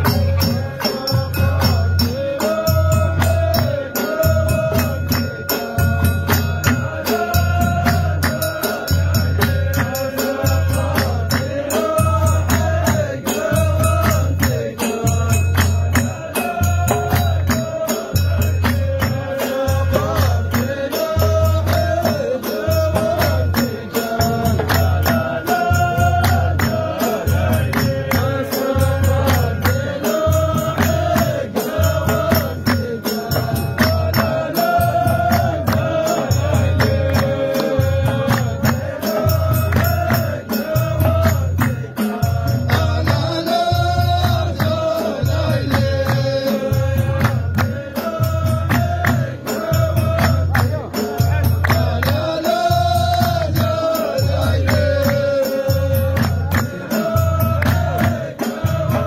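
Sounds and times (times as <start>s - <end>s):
men chanting in chorus: 0.0s - 59.0s
rhythmic hand-clapping: 0.0s - 59.0s
deep drum beat: 5.9s - 59.0s.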